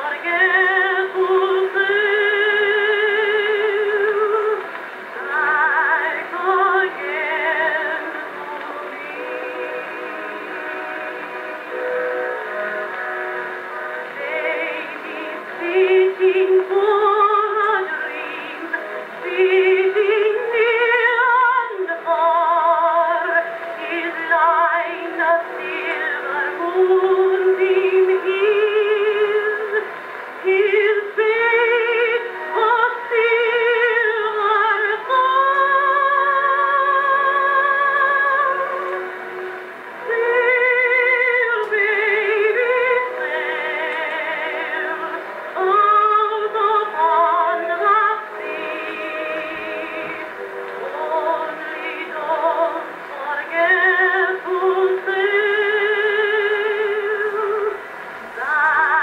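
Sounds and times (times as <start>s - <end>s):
phonograph woman singing lullaby: 0.0s - 59.0s.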